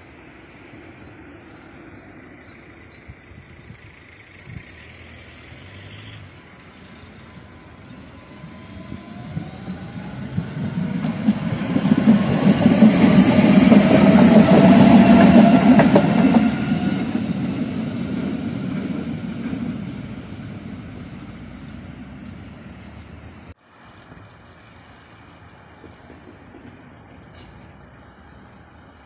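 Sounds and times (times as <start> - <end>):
tram rumbling past: 0.0 - 29.0.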